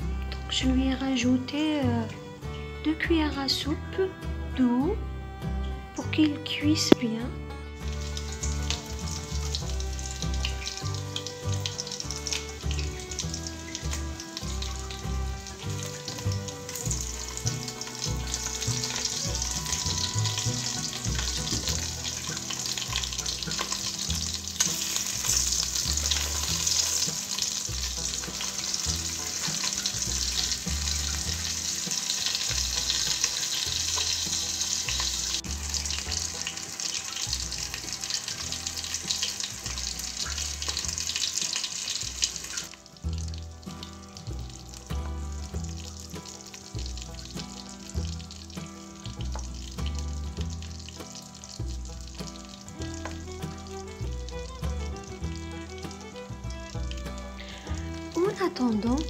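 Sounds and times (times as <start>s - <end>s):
background music with low notes: 0.0s - 59.0s
sausages sizzling in a frying pan: 7.8s - 59.0s.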